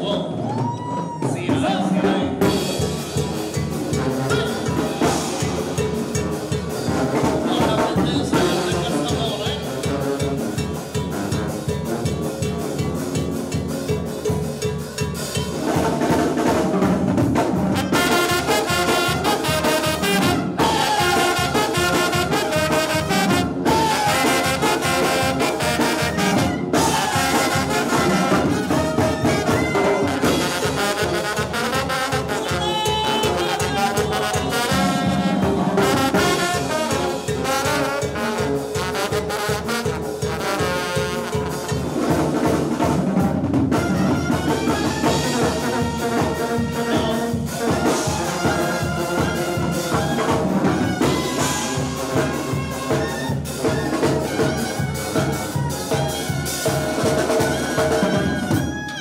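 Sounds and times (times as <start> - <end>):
brass dance music: 1.3 - 13.6, 15.6 - 58.9.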